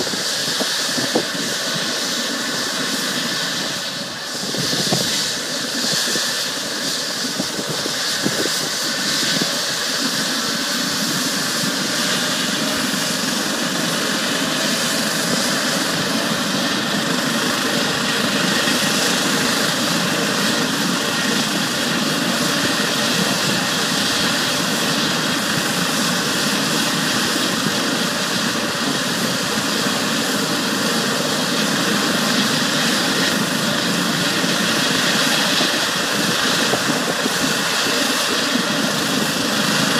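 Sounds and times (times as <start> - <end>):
helicopter turbine and rotor: 0.0 - 39.9.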